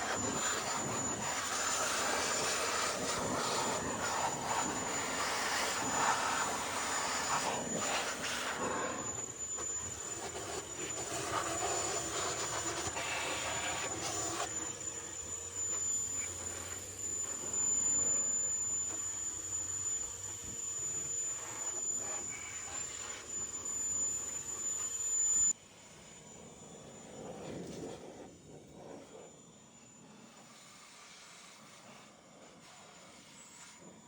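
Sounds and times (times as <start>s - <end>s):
air blower whining: 0.0s - 34.0s.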